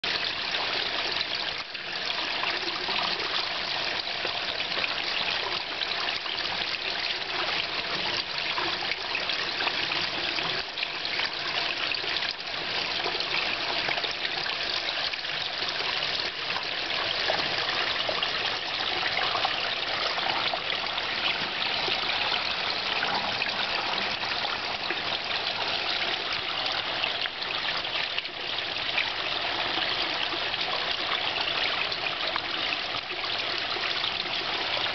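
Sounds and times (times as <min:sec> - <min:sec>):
water trickling over rocks: 0:00.0 - 0:34.9.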